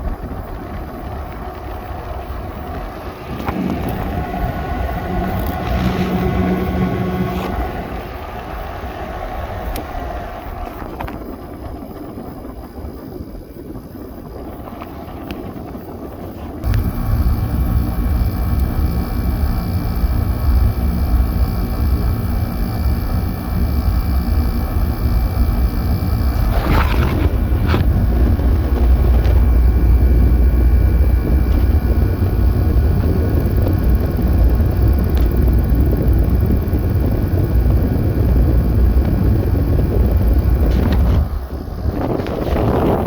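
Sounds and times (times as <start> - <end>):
window air conditioner running: 0.1 - 10.9, 16.6 - 43.0
compressor humming: 1.6 - 10.5, 16.6 - 43.0.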